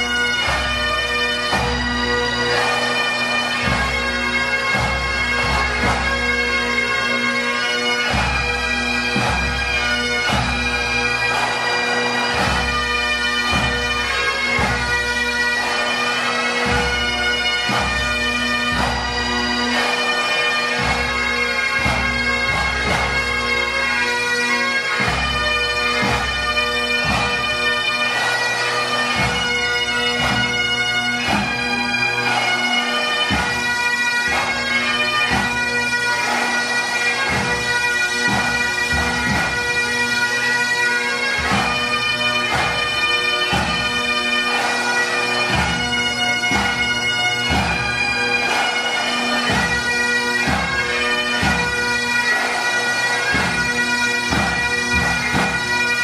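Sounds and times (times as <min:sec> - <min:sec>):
bagpipe drones: 0:00.0 - 0:56.0
bagpipe melody: 0:00.0 - 0:56.0.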